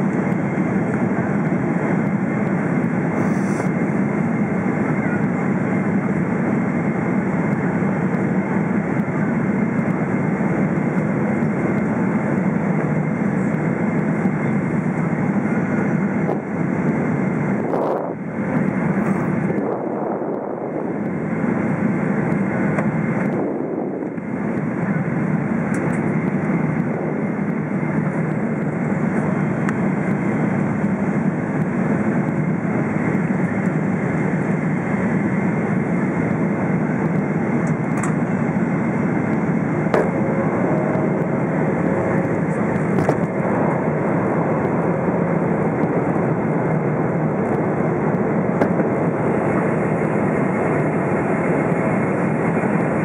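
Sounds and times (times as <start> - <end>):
airplane cabin engine noise: 0.0 - 53.0.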